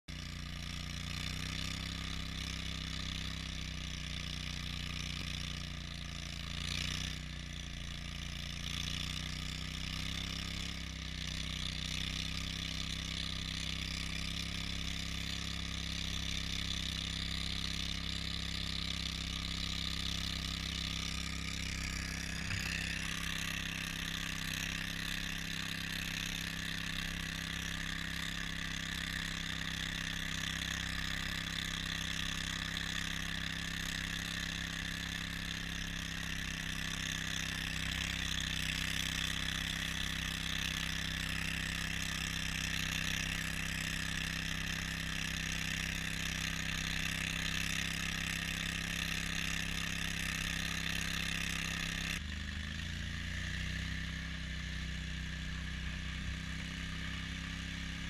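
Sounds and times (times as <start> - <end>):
tracked vehicle engine running: 0.0 - 58.0.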